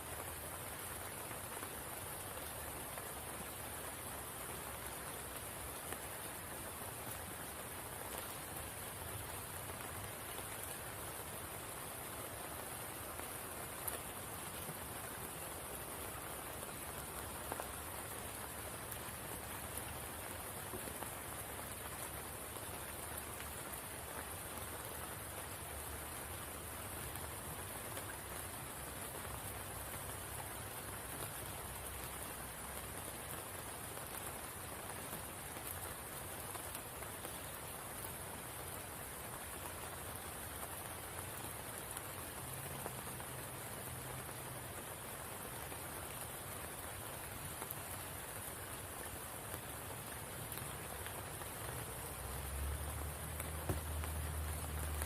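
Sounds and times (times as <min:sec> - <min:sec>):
rain falling on a pool: 0:00.0 - 0:55.0.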